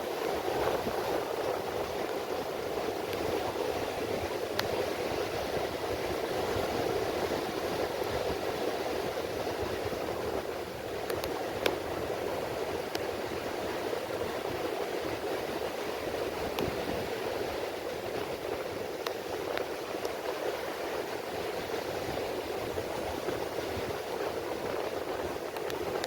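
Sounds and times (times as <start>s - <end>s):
rain falling on the sea: 0.0s - 26.0s.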